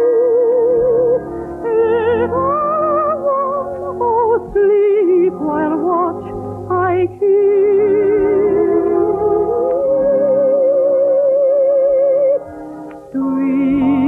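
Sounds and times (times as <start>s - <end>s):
soprano singing with vibrato: 0.0s - 12.5s, 13.1s - 14.0s
soft orchestral accompaniment: 0.0s - 14.0s.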